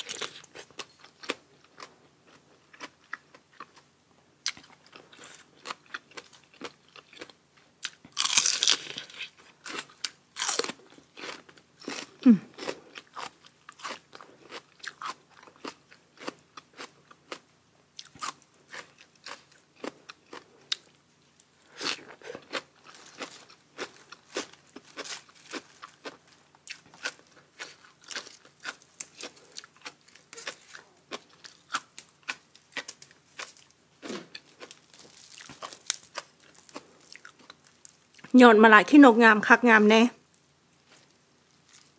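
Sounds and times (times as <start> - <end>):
wet chewing and crunching: 0.0 - 38.3.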